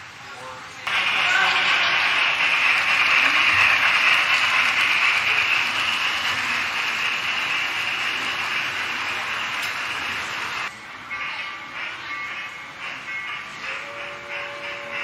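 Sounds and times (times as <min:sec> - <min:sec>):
model train rattling on track: 0:00.9 - 0:15.0.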